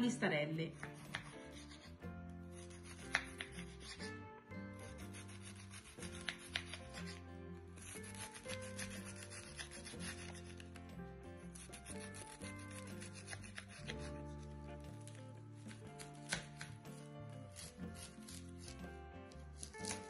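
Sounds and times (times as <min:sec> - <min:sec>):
background music: 0:00.0 - 0:20.0
knife slicing cabbage on board: 0:00.8 - 0:02.0, 0:02.6 - 0:04.2, 0:04.8 - 0:07.2, 0:07.8 - 0:10.9, 0:11.5 - 0:20.0.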